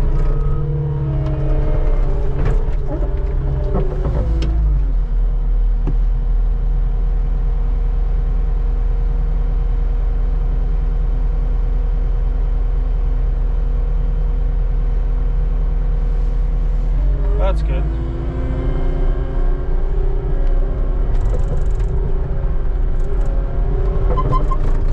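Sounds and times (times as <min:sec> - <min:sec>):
skid steer engine droning: 0:00.0 - 0:24.9.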